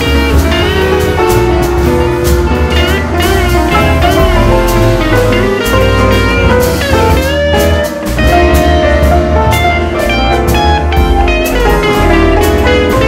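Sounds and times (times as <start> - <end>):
drums with steady beat: 0.0 - 13.0
guitar: 0.0 - 13.0.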